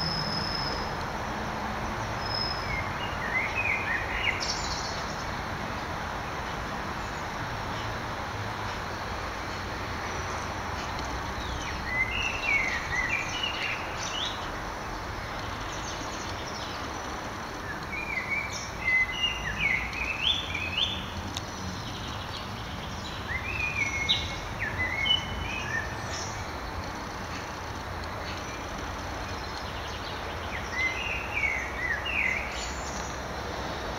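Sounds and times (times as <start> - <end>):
steady background hiss: 0.0 - 33.9
bird chirping: 2.0 - 5.3, 9.4 - 33.3.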